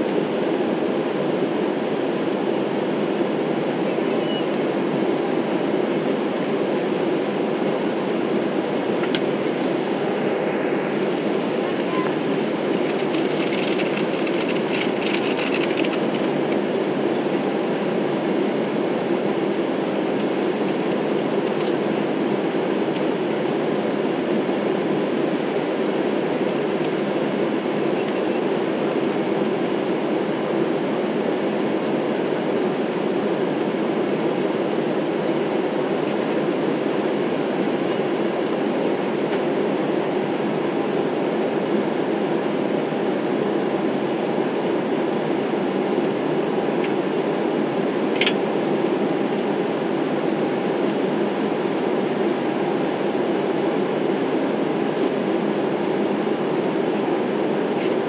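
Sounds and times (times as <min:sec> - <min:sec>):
jet airliner cabin noise: 0:00.0 - 0:58.0.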